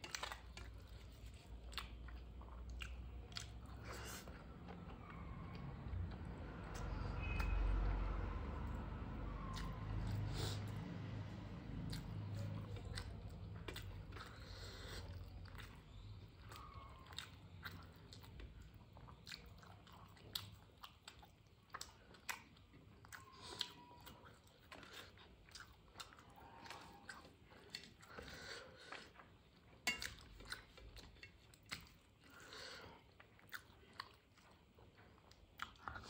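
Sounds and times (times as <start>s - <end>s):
chewing rice: 0.0s - 36.0s.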